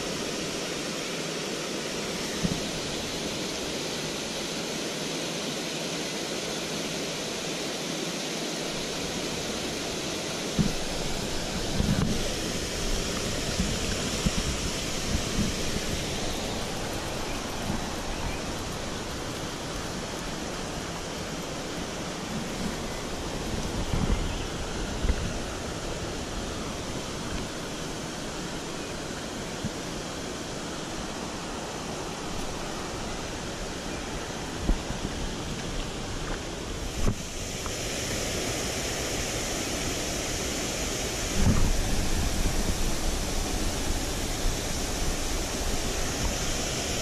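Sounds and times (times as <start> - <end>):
stream water rushing: 0.0 - 47.0.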